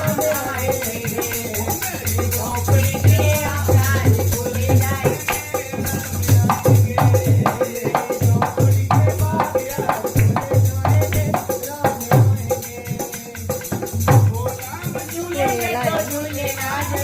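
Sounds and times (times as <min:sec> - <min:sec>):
shaker-like percussion: 0:00.0 - 0:17.0.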